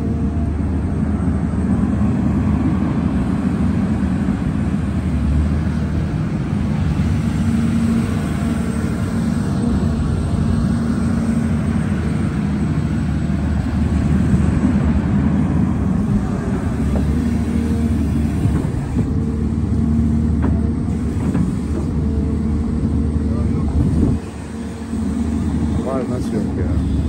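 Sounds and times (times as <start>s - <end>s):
excavator diesel engine: 0.0s - 27.0s.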